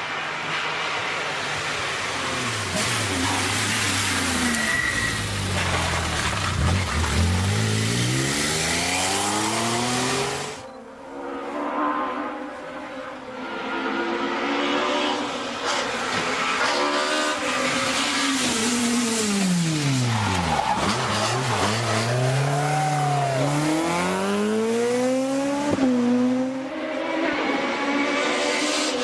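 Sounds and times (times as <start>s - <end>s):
rally car engine revving: 0.3s - 10.6s, 13.4s - 29.0s.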